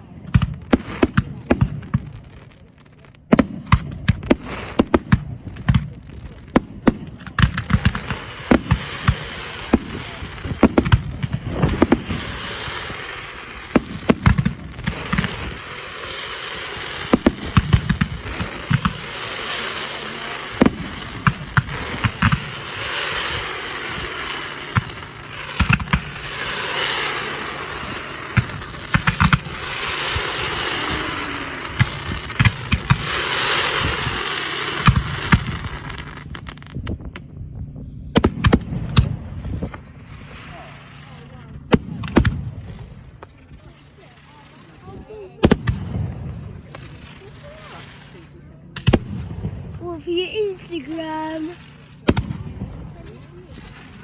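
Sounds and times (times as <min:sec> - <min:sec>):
fireworks banging: 0:00.0 - 0:54.0
fireworks crackling hiss: 0:00.0 - 0:54.0.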